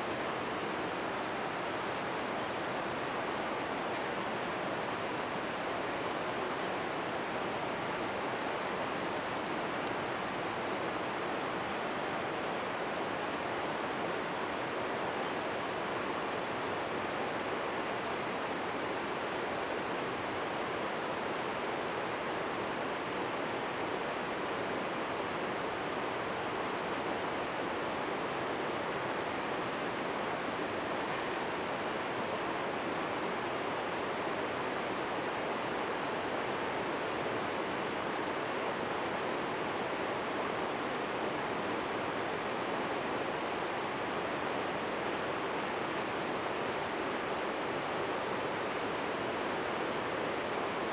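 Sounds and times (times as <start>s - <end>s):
distant waterfall rushing: 0.0s - 50.9s.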